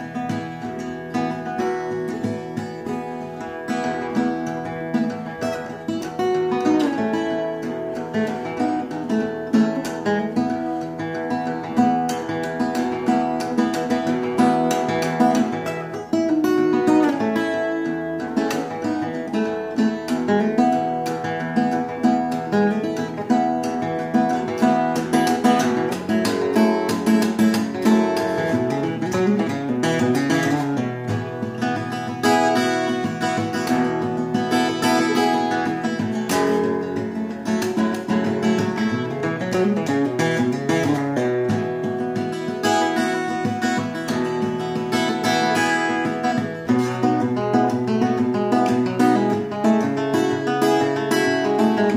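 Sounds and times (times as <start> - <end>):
acoustic guitar plucked notes and chords: 0.0 - 51.9.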